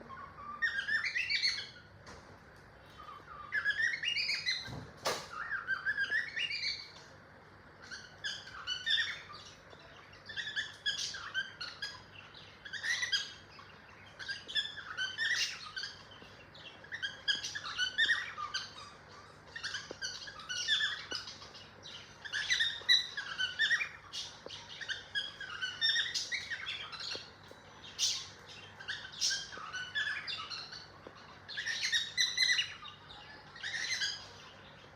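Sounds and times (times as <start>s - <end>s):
cockatiel chirping: 0.0s - 1.9s, 2.8s - 7.0s, 7.8s - 34.9s.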